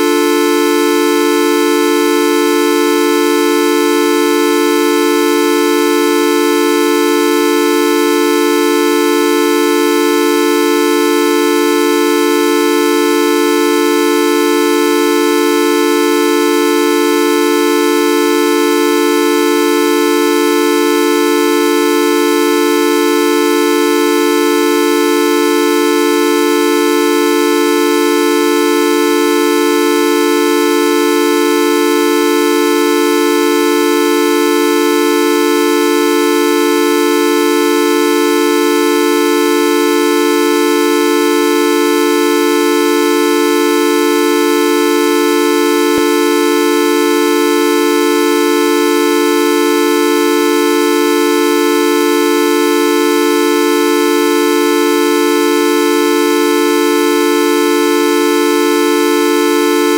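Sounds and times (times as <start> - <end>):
horn-like buzzing tone: 0.0 - 59.9.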